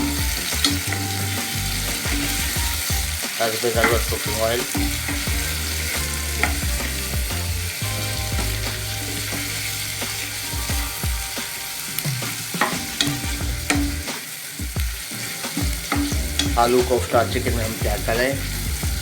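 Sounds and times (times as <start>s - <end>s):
spoon scraping a pan: 0.0s - 16.7s
onion sizzling in oil: 0.0s - 19.0s.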